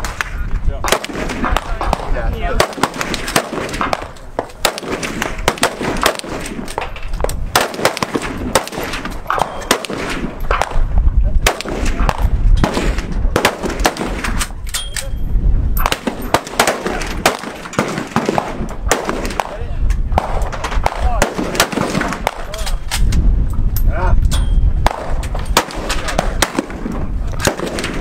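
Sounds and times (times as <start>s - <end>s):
gunshots: 0.0s - 14.6s, 15.8s - 23.1s, 24.8s - 28.0s.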